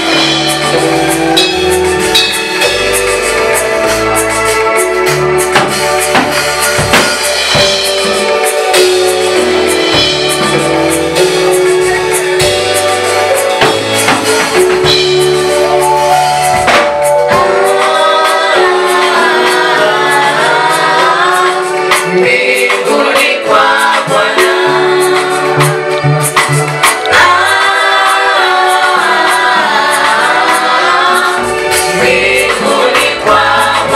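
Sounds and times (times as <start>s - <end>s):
choir singing gospel song: 0.0s - 33.9s
drums: 0.0s - 33.9s
instrumental backing: 0.0s - 33.9s.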